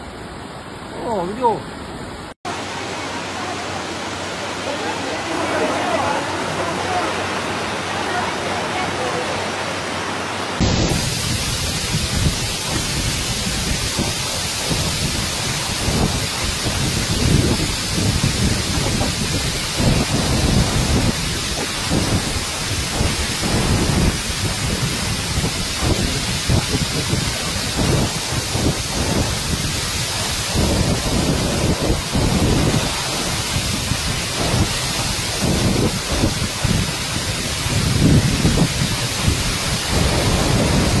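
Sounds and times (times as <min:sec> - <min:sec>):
deep water rumbles: 0:00.0 - 0:41.0
floodwater rushing: 0:00.0 - 0:41.0.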